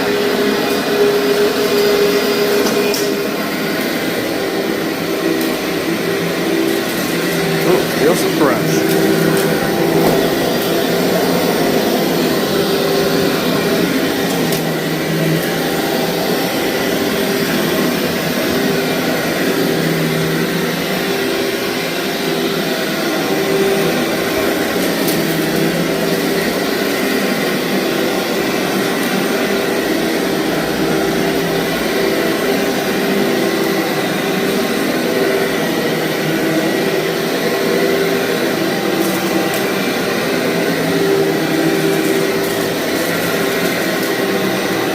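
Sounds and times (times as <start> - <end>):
vacuum cleaner on carpet: 0.0 - 44.9.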